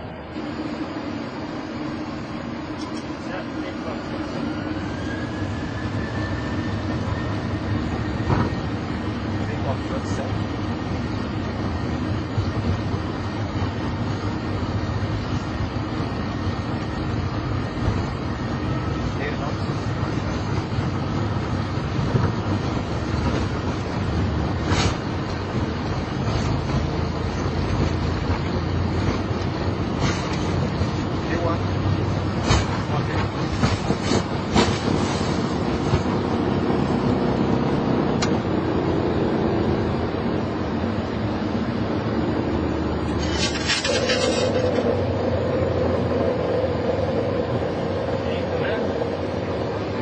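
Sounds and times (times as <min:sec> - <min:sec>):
aircraft engines low rumble: 0:00.0 - 0:50.0.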